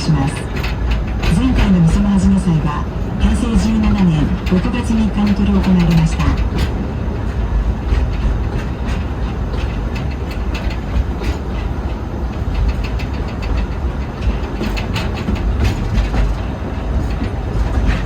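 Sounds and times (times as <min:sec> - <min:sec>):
train rumble: 0:00.0 - 0:18.0
wheels clicking on rails: 0:00.0 - 0:18.0.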